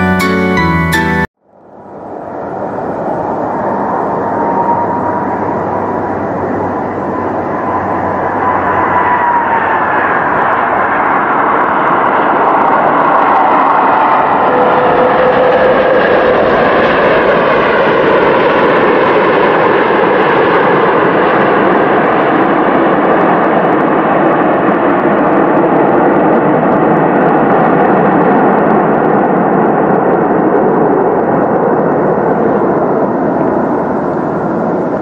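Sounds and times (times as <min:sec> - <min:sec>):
jet engine whine: 0:01.4 - 0:35.0
jet engine roar: 0:01.6 - 0:35.0.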